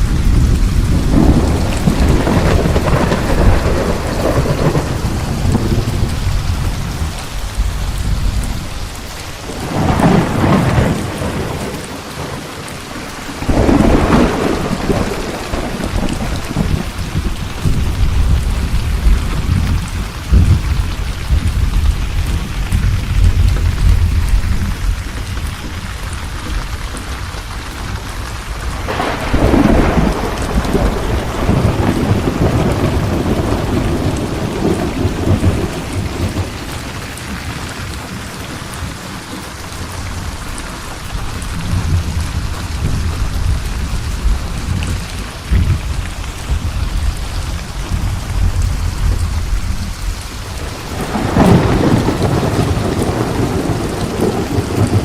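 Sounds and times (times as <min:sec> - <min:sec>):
rolling thunder: 0:00.0 - 0:38.2, 0:40.1 - 0:55.0
steady rain: 0:00.0 - 0:55.0.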